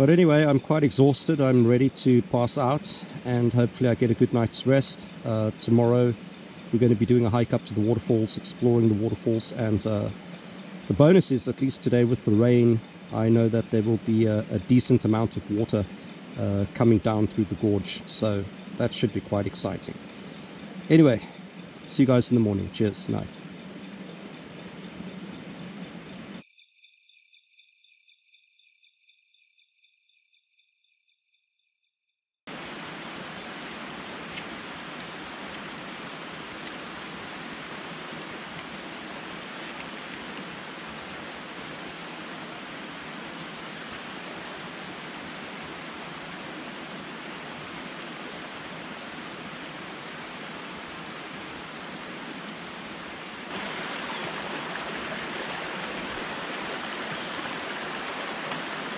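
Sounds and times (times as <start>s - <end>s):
rushing water: 0.0s - 26.4s, 32.5s - 58.9s
night chorus of chirping: 0.0s - 58.9s.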